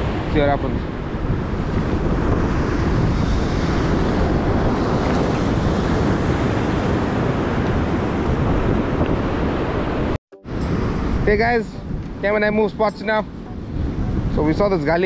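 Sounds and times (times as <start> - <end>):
ocean surf breaking on rocks: 0.0 - 15.0
wind buffeting microphone: 0.0 - 15.0.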